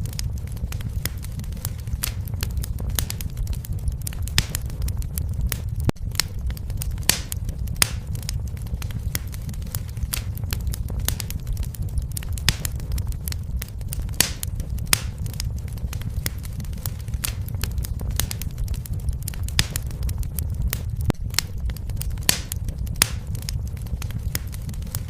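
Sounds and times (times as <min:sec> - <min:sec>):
fireplace fire crackling and popping: 0:00.0 - 0:25.0
low rumble of flames: 0:00.0 - 0:25.0.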